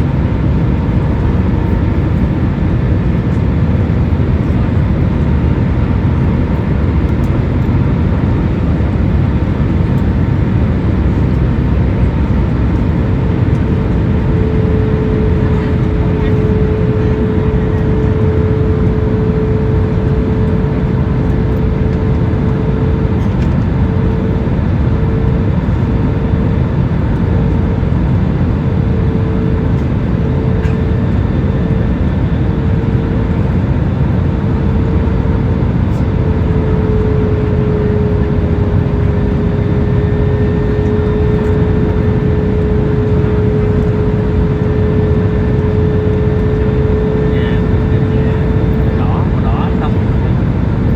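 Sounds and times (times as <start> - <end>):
airliner cabin roar: 0.0 - 50.9
constant hum: 0.0 - 50.9.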